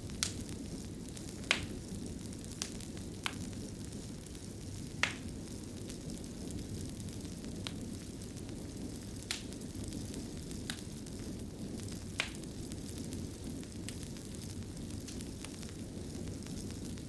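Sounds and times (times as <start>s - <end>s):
fire crackling in fireplace: 0.0s - 17.0s
sharp fire pops: 0.0s - 17.0s.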